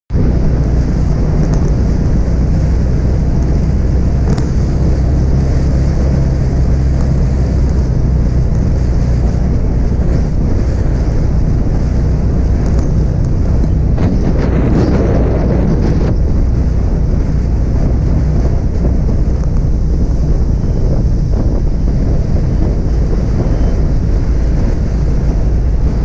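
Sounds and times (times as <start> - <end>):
car engine and road rumble: 0.1 - 26.0
wind noise: 0.1 - 26.0.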